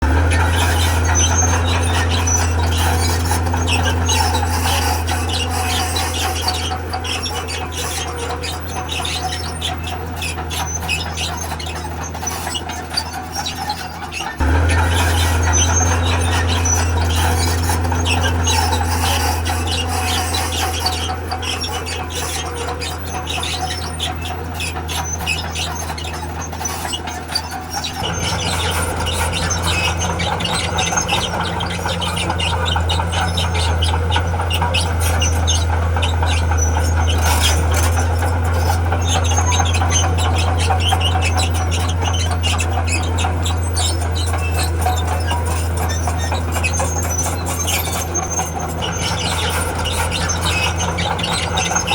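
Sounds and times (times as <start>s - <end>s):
bulldozer diesel engine running: 0.0s - 51.9s
steel tracks squealing and clattering: 0.0s - 51.9s.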